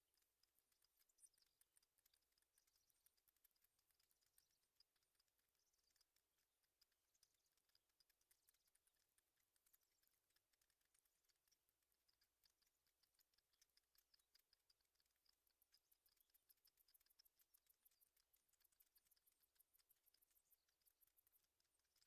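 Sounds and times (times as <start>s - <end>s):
faint clicks: 0.0s - 22.0s
high ticks: 0.0s - 22.0s.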